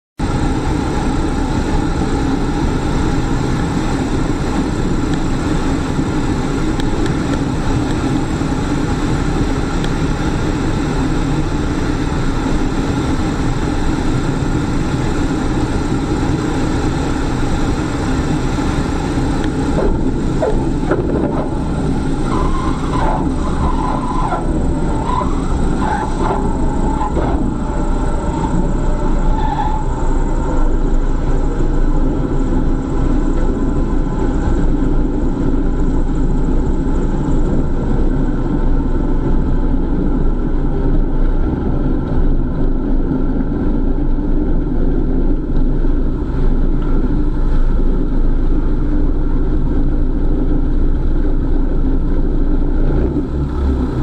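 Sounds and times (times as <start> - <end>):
vehicle rumble and hiss: 0.2 - 54.0.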